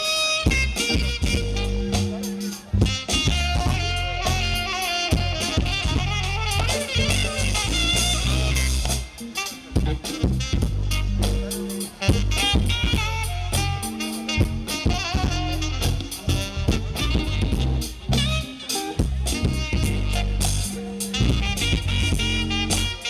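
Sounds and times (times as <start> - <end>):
bass: 0.0 - 23.0
drum kit: 0.0 - 23.0
live band playing instrumental: 0.0 - 23.0.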